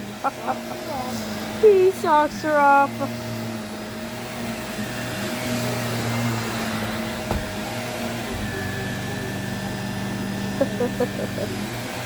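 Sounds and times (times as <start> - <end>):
vacuum cleaner motor whining: 0.0 - 12.0.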